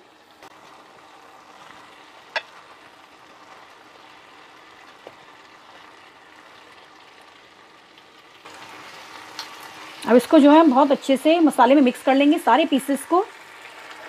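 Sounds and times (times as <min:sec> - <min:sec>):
gravy sizzling in a pan: 0:00.0 - 0:14.0.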